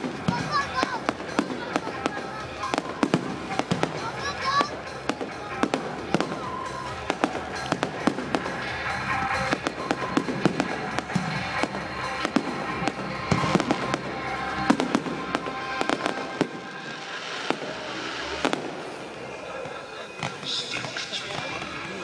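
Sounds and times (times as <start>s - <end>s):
fireworks crackling: 0.0s - 22.0s
music playing: 0.0s - 22.0s.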